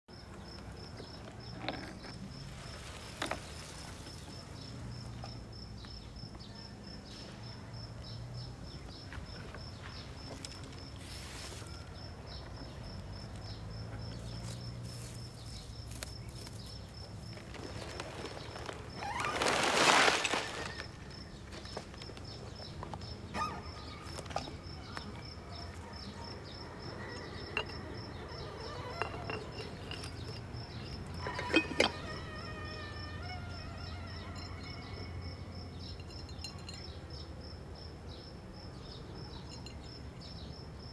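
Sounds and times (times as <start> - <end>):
insect chirping: 0.1 - 40.9.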